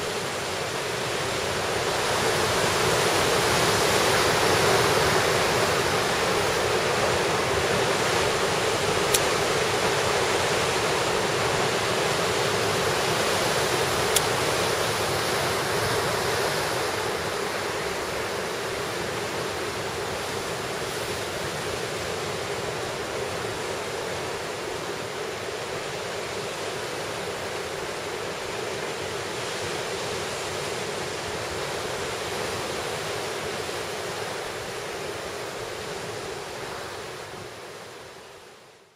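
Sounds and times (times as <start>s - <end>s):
wind: 0.0s - 38.9s.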